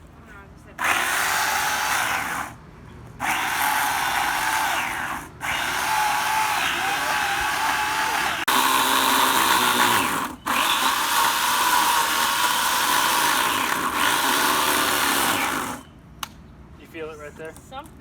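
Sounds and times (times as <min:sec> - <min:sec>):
electric power tool running: 0:00.8 - 0:02.6, 0:03.2 - 0:15.9.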